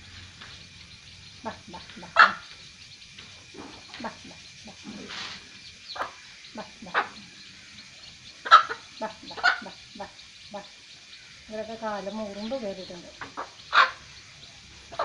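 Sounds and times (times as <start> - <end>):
hen clucking: 0.7 - 14.2, 14.8 - 15.0.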